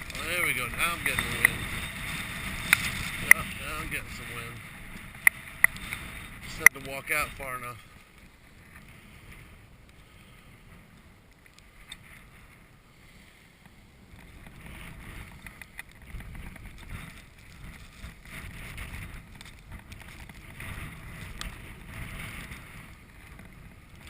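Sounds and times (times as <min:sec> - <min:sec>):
wind buffeting microphone: 0:00.0 - 0:12.9, 0:13.8 - 0:24.0.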